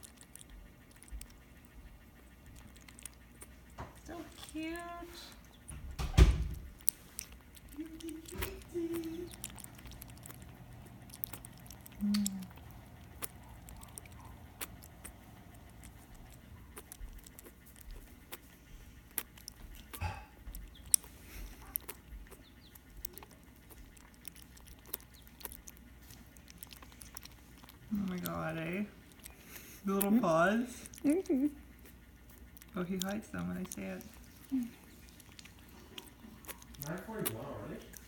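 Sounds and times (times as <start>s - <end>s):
rabbit suckling wet clicks: 0.0s - 38.0s
low hum: 0.1s - 36.8s.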